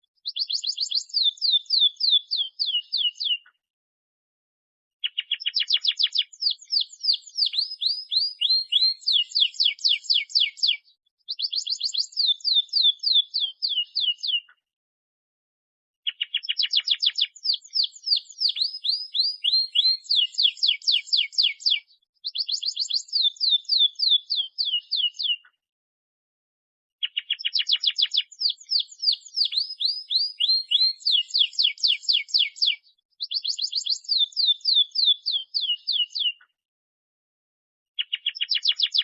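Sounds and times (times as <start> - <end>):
canary singing trills: 0.2 - 3.5, 5.0 - 14.5, 16.0 - 25.5, 27.0 - 36.4, 38.0 - 39.0.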